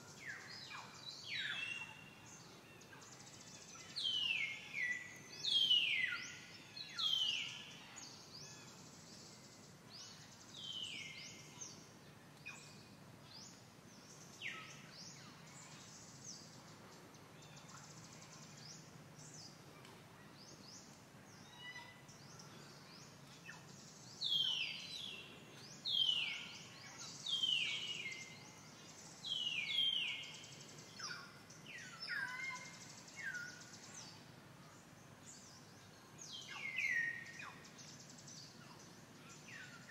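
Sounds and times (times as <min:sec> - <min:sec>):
birds calling: 0:00.0 - 0:39.9
faint steady hiss: 0:00.0 - 0:39.9.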